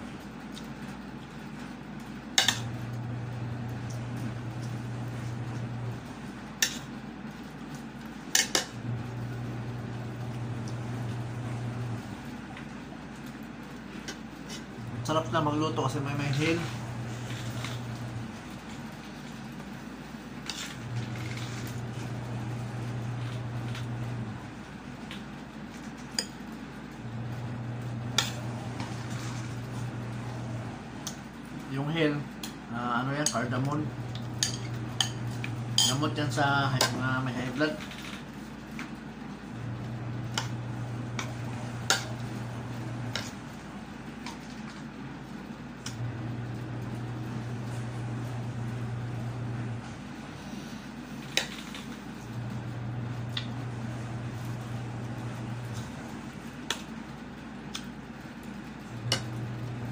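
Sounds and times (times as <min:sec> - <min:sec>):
steady low hum: 0:01.6 - 0:59.9.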